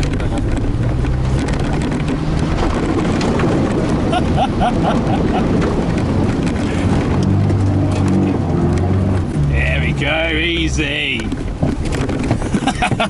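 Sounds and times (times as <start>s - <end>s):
truck engine under load: 0.0s - 13.0s
truck knocks and rattles: 0.0s - 13.0s.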